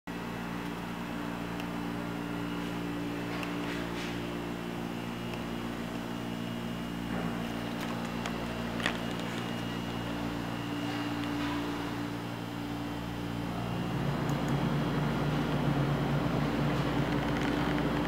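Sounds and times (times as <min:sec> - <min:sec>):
electric motor humming: 0:00.2 - 0:18.0.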